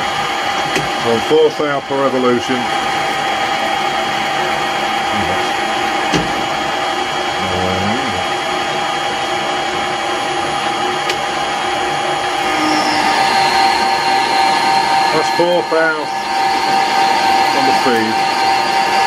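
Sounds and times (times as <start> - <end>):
lathe cutting with steady whine: 0.0 - 19.0.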